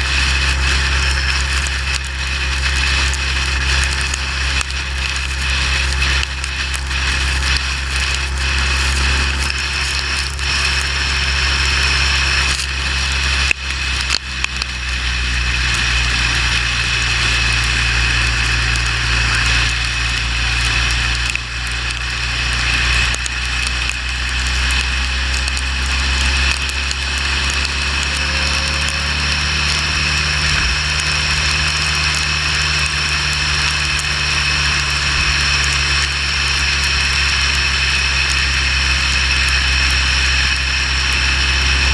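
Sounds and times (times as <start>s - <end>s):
motorcycle engine droning: 0.0s - 41.9s.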